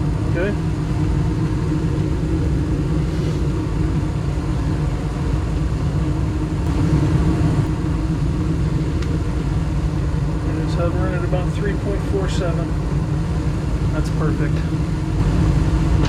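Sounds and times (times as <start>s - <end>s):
gas furnace droning: 0.0s - 16.0s.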